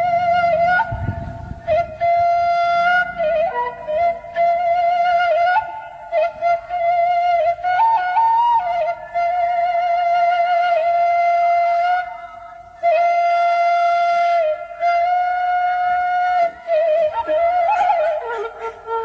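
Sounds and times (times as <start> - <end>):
slow flute melody: 0.0 - 19.0.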